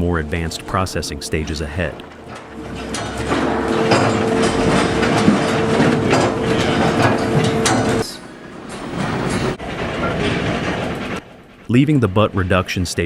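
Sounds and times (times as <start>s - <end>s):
machine whine: 0.0s - 11.9s
logs and conveyor chains clattering: 0.0s - 13.0s.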